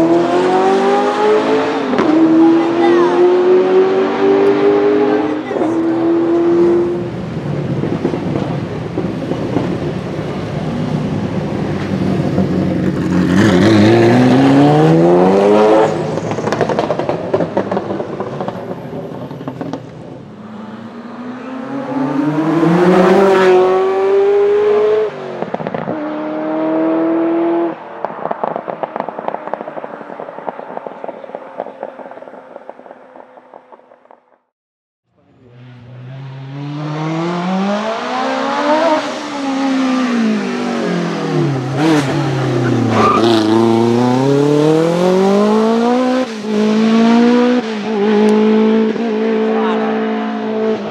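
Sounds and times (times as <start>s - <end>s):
sports car accelerating past: 0.0s - 34.2s, 35.3s - 50.9s.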